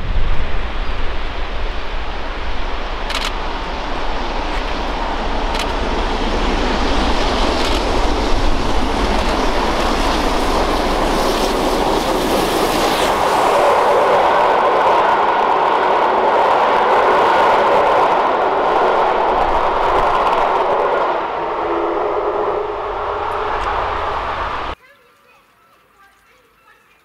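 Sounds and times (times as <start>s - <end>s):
rush of steam: 0.0s - 24.8s
steam locomotive passing: 0.0s - 24.8s
wind buffeting microphone: 0.0s - 24.8s.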